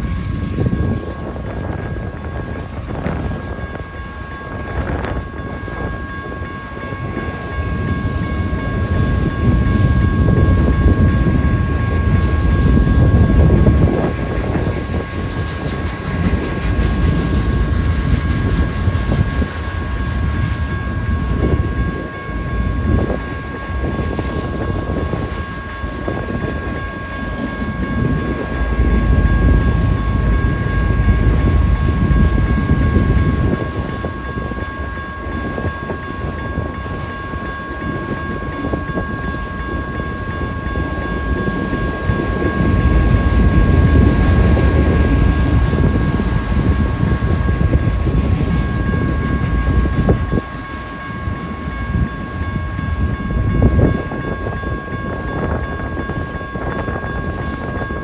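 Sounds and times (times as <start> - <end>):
freight train rumbling past: 0.0 - 58.0
high-pitched ringing tone: 0.0 - 58.0.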